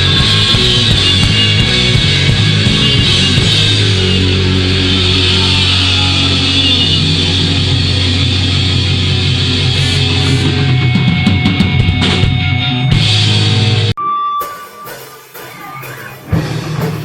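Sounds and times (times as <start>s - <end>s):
distorted electric guitar: 0.0s - 17.0s
heavy metal band playing: 0.0s - 17.0s.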